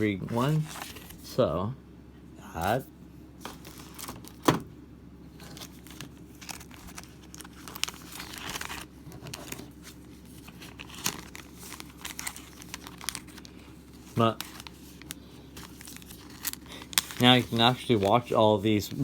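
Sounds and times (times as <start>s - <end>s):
packaging rustling and crinkling: 0.3s - 1.3s, 3.4s - 4.5s, 5.4s - 19.0s.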